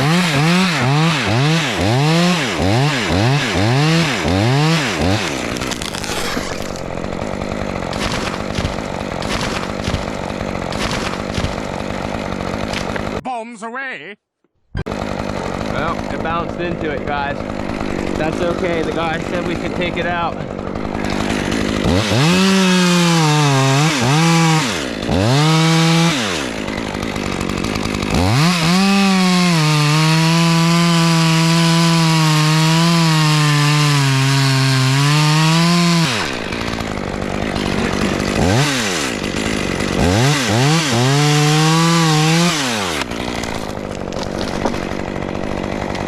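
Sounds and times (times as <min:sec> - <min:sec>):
chainsaw revving and cutting wood: 0:00.0 - 0:13.2, 0:14.8 - 0:46.0.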